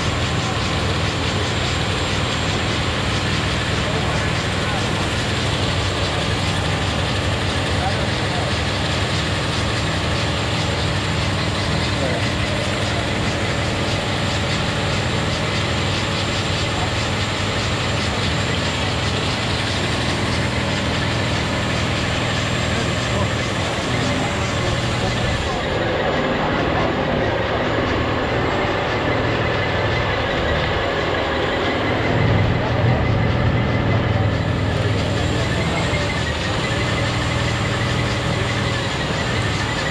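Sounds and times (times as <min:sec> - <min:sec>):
truck diesel engine running: 0:00.0 - 0:39.9
tyres spinning rushing noise: 0:00.0 - 0:39.9.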